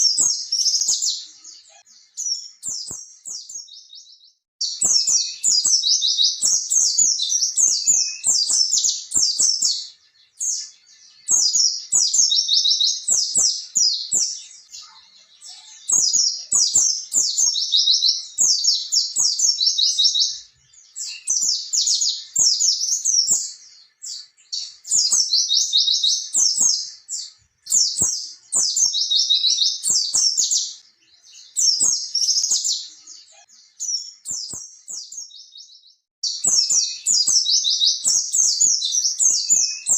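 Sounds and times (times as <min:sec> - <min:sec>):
bird singing rapid chattering song: 0:00.0 - 0:39.9.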